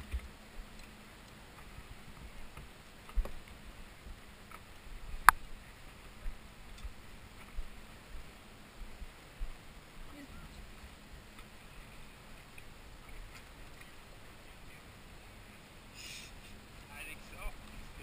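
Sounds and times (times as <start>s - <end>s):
low background hiss: 0.0s - 18.0s.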